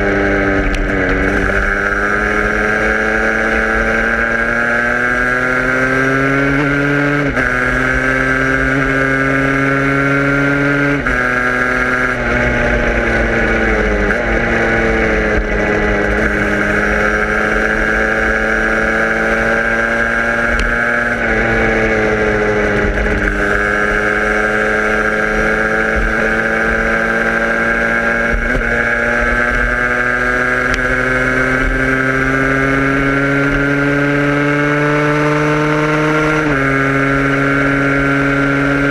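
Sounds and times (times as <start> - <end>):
road and wind rumble: 0.0 - 38.9
vehicle engine running: 0.0 - 38.9.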